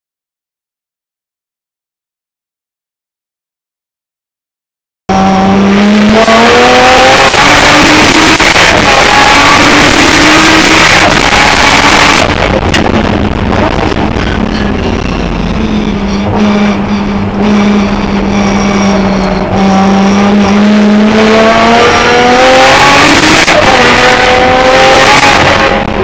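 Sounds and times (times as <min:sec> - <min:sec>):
car engine at full throttle: 0:05.1 - 0:26.0.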